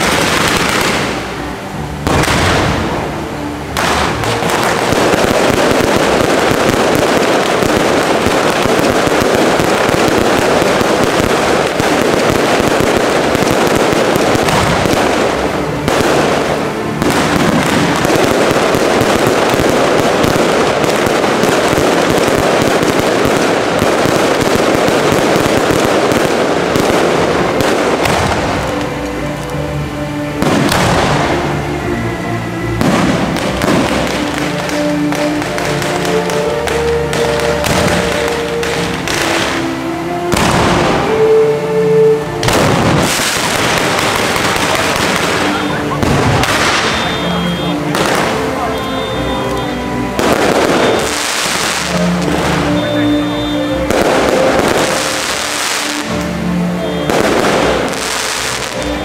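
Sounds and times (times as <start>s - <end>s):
firework bangs: 0.0s - 29.6s, 30.3s - 31.6s, 32.7s - 59.0s.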